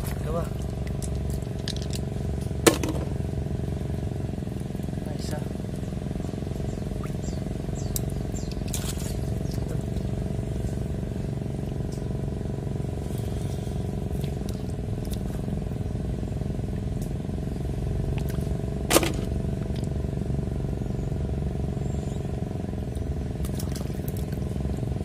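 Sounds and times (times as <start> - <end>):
motor engine droning: 0.0 - 25.0.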